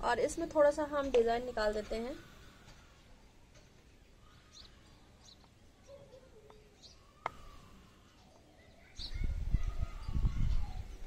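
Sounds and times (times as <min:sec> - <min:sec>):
faint bird chirps: 0:02.0 - 0:11.0.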